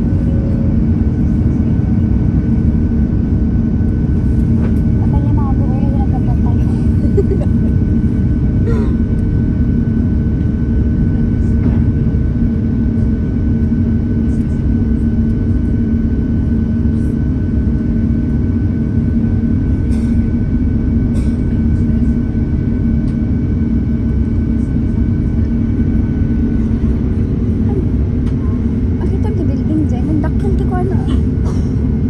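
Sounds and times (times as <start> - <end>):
jet engine drone in cabin: 0.0 - 32.0.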